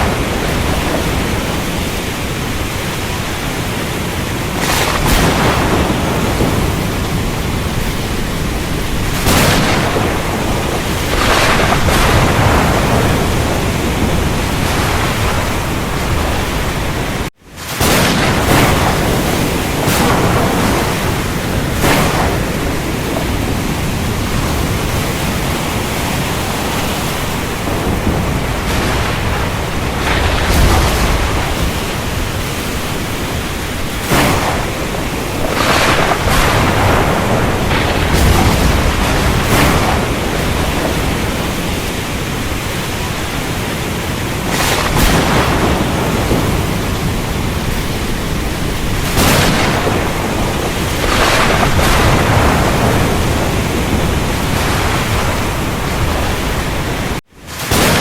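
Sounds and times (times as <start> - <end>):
deep thunder rumbles: 0.0 - 58.0
heavy rain: 0.0 - 58.0
sharp thunder cracks: 0.0 - 58.0.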